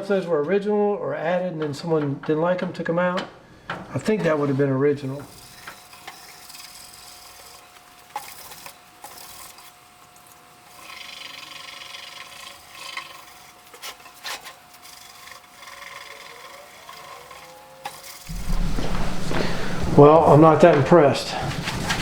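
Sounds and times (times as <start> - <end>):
steel wool scrubbing metal: 4.1 - 22.0.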